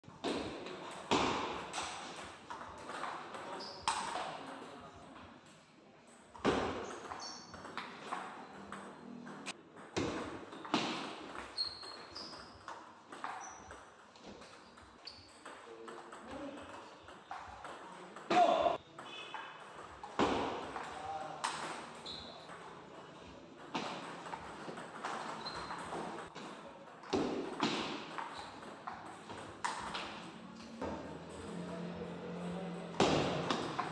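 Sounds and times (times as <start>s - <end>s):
ping pong ball bouncing on table: 0.2s - 4.8s, 6.1s - 22.8s, 23.6s - 33.9s
ping pong ball hitting paddles: 0.2s - 33.9s.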